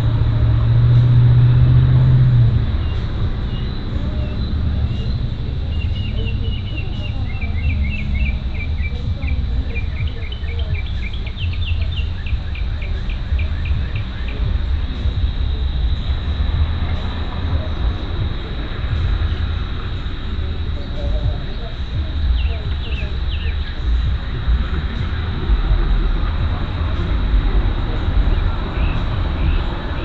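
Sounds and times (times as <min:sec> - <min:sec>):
crickets droning: 0:00.0 - 0:30.0
low rumble: 0:00.0 - 0:30.0
bird chirping: 0:02.7 - 0:30.0.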